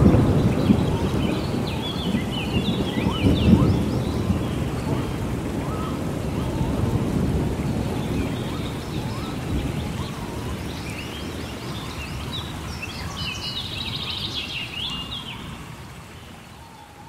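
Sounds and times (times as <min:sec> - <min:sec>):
birds chirping and trilling: 0:00.0 - 0:17.0
low rumble of thunder: 0:00.0 - 0:17.0
rain: 0:00.0 - 0:17.0.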